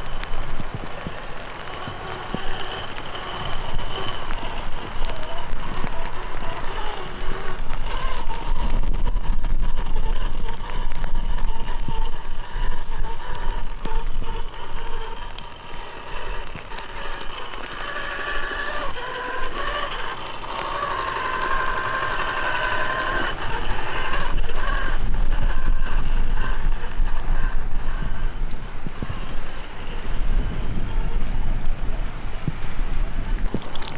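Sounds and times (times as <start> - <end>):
electric motor whine: 0.0 - 33.9.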